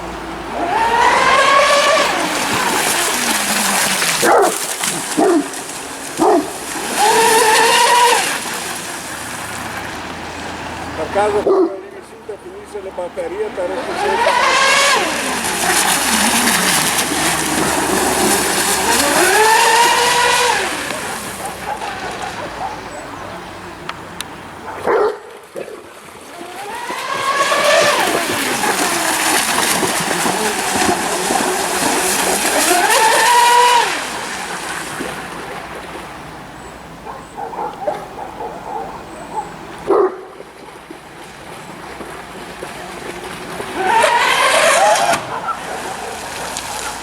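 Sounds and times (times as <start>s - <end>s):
boat motor whine: 0.0s - 47.0s.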